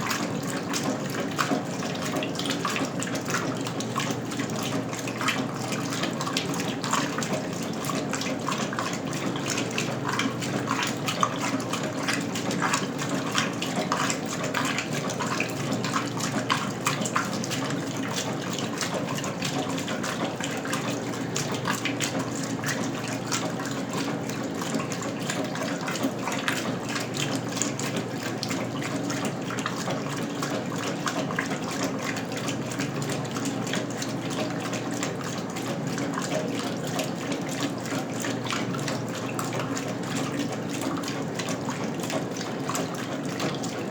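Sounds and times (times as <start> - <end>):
water splashing in washing machine: 0.0 - 43.9.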